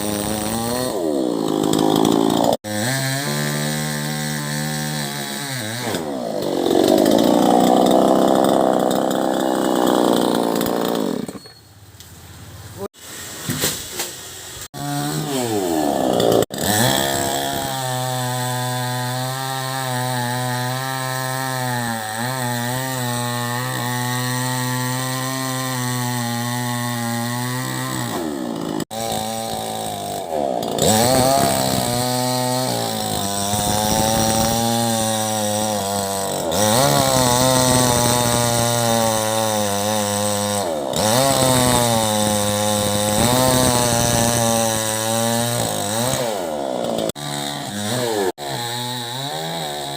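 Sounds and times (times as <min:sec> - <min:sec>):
chainsaw cutting wood: 0:00.0 - 0:11.6, 0:12.8 - 0:49.9.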